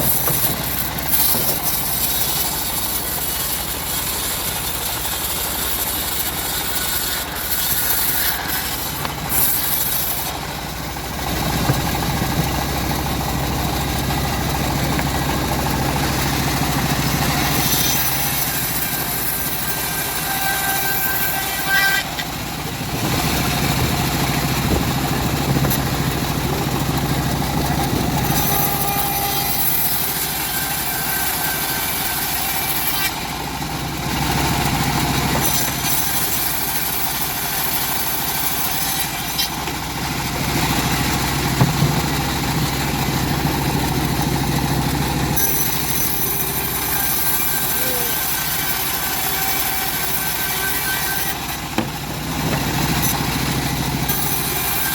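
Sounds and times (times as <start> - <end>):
bandsaw sawmill cutting logs: 0.0 - 54.9.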